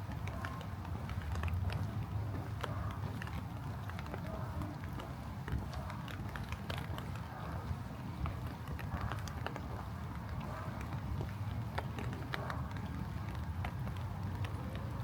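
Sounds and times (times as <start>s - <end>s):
footsteps on wet pavement: 0.0s - 15.0s
raindrops ticking: 0.0s - 15.0s.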